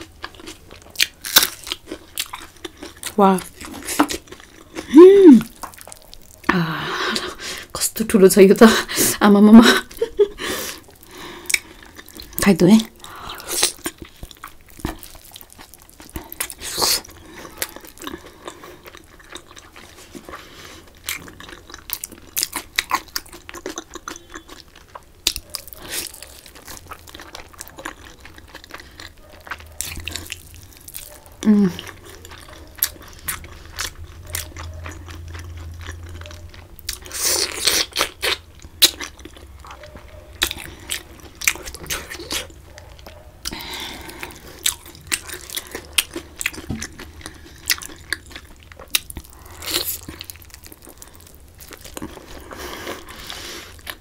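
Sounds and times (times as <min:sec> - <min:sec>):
person chewing and biting: 0:00.0 - 0:07.7, 0:09.9 - 0:12.4, 0:13.0 - 0:54.0.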